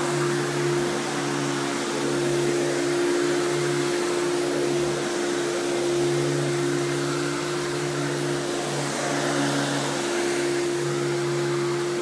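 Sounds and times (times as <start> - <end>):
vacuum cleaner motor humming: 0.0 - 12.0.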